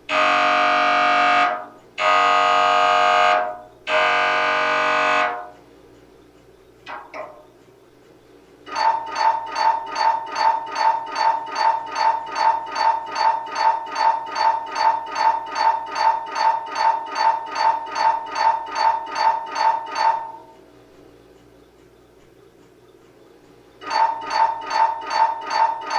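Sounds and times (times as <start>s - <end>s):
faint steady hum: 0.0s - 25.9s
mri scanner rhythmic beeping: 0.0s - 25.9s.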